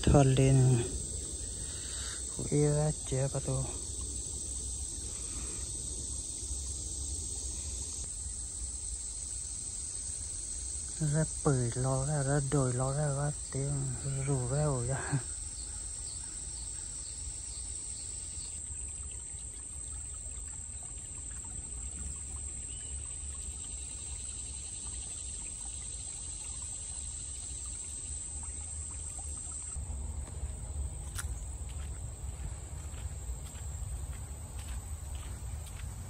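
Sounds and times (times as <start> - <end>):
creek trickling over rocks: 0.0 - 36.0
crickets chirping: 0.0 - 36.0.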